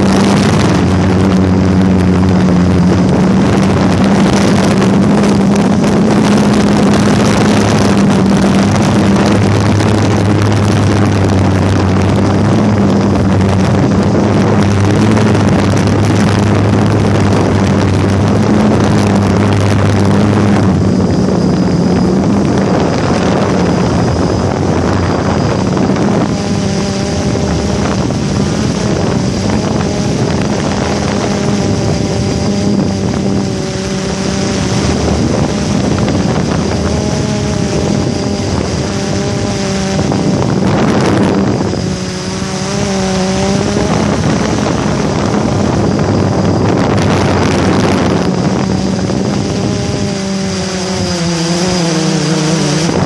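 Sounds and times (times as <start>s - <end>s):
aircraft propeller hum: 0.0s - 53.0s
wind rushing over microphone: 0.0s - 53.0s.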